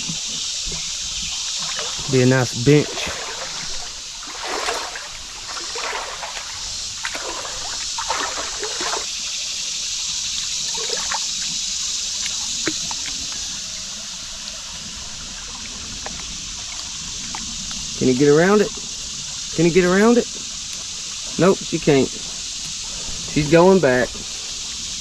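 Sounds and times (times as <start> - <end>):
creek water over rocks: 0.0 - 25.0
water splashes: 0.0 - 25.0.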